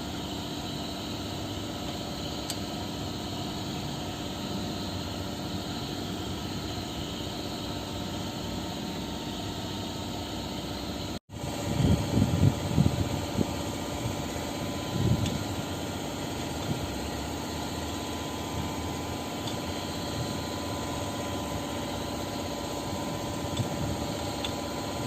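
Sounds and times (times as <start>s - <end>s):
mechanical engine drone: 0.0s - 25.0s.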